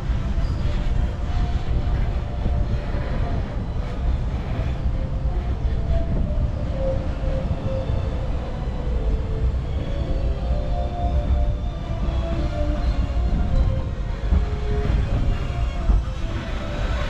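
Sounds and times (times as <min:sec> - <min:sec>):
tram rolling with low rumble: 0:00.0 - 0:17.0.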